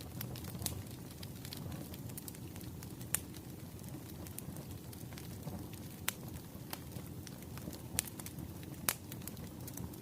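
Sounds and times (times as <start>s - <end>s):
firewood crackling: 0.0s - 10.0s
low rumble of flames: 0.0s - 10.0s
sharp pops from fire: 0.0s - 10.0s.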